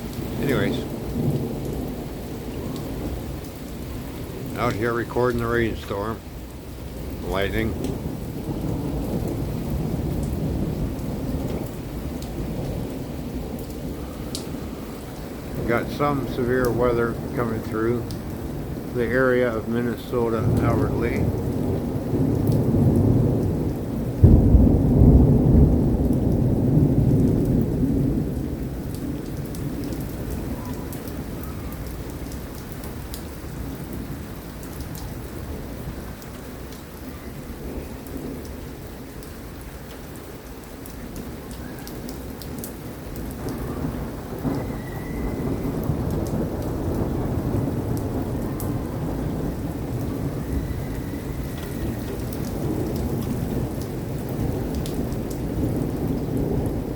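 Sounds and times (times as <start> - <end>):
thunder: 0.0 - 5.9, 6.9 - 36.2, 41.1 - 56.9
steady rain: 0.0 - 56.9.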